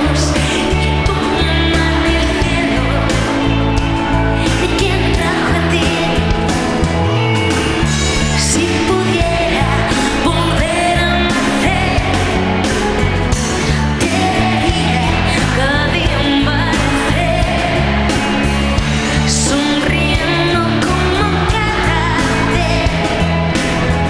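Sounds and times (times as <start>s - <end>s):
woman singing: 0.0s - 23.4s
pop-rock band playing: 0.0s - 24.0s.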